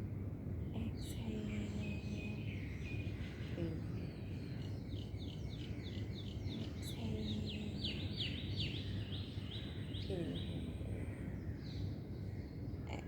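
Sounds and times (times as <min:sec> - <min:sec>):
low background rumble: 0:00.0 - 0:13.0
birds chirping: 0:00.7 - 0:13.0.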